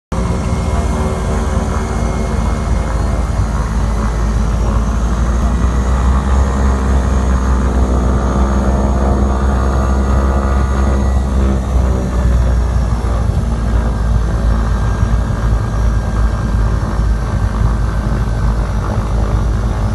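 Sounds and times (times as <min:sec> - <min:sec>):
plane piston engines droning: 0:00.1 - 0:19.9.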